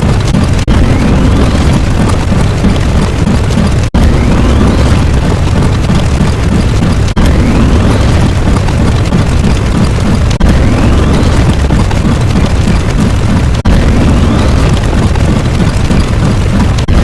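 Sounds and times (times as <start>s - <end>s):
rumbling explosion: 0.0s - 17.0s.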